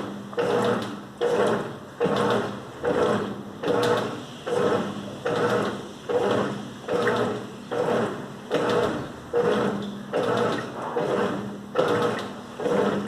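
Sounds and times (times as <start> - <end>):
washing machine sloshing: 0.0 - 13.0.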